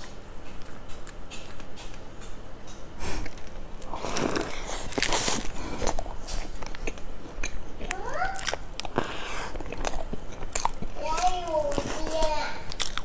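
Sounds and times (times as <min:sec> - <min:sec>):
cake being bitten and chewed: 0:00.0 - 0:13.0.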